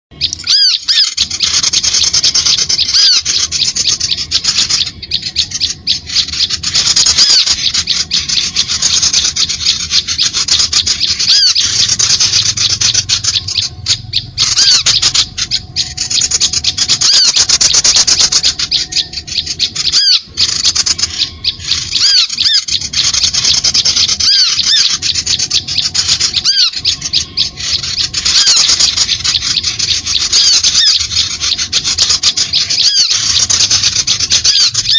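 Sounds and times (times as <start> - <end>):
fast chattering bird calls: 0.1 - 34.9.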